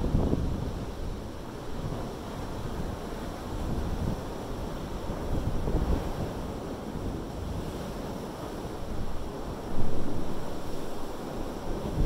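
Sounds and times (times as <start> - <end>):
surf churning through rocks: 0.0 - 12.0.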